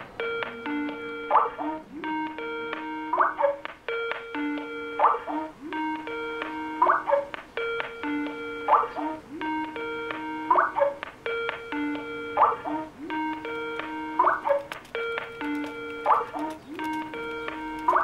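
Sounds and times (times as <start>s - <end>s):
electronic ringtone chiming: 0.0s - 18.0s.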